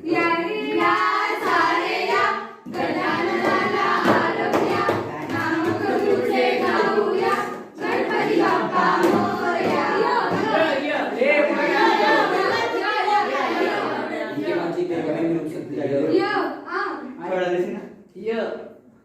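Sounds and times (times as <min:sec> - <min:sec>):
young voices singing together: 0:00.0 - 0:17.0.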